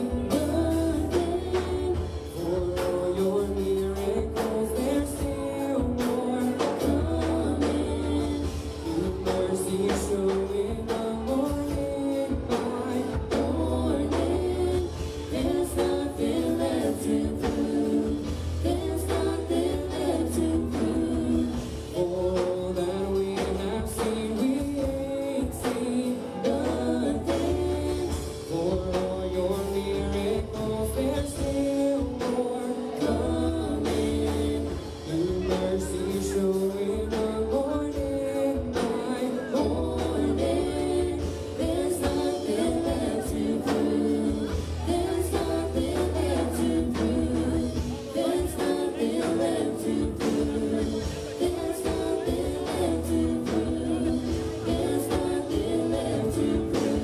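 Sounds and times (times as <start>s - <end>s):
low bass: 0.0s - 57.0s
voices singing: 0.0s - 57.0s.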